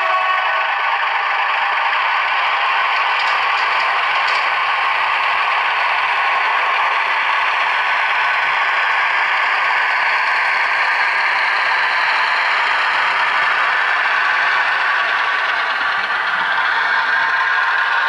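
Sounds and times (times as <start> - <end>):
diesel engine sound from small speaker: 0.0 - 18.0
model train clattering on track: 2.0 - 18.0.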